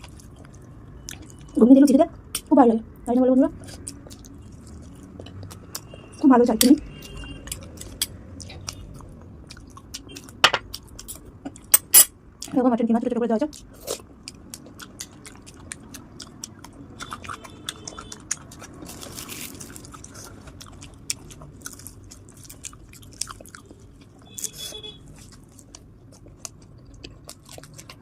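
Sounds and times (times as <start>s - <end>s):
close chewing with mouth clicks: 0.0s - 2.5s, 3.5s - 11.8s, 13.4s - 28.0s.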